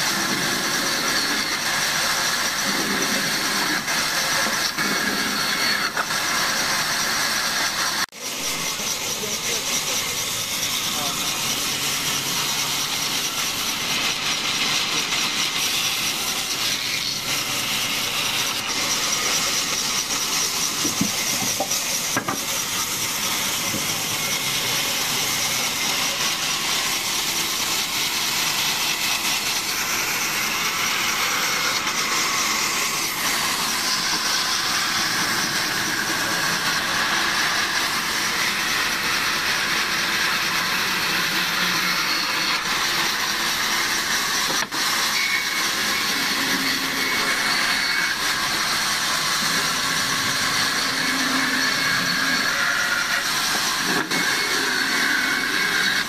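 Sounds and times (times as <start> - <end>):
band saw cutting through wood: 0.0 - 56.0.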